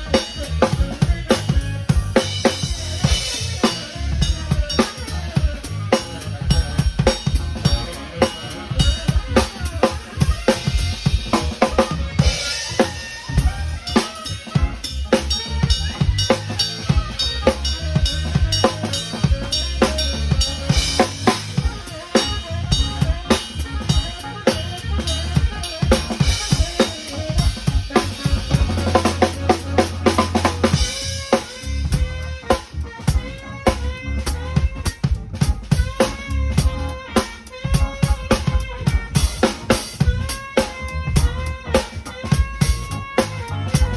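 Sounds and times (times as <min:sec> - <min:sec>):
drum kit playing a groove: 0:00.0 - 0:43.9.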